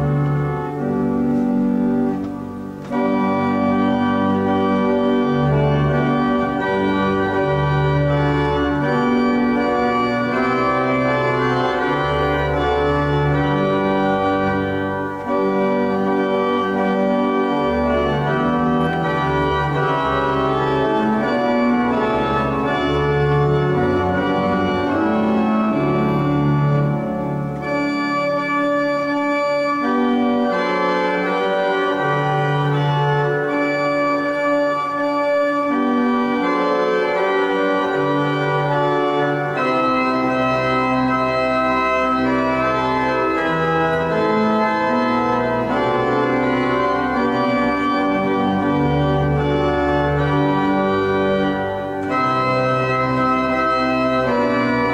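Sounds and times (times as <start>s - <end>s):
organ playing slow chords: 0.0s - 54.9s.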